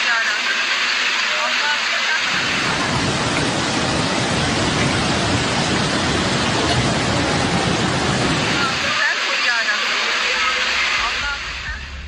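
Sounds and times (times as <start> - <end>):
rushing rain or floodwater: 0.0 - 12.0.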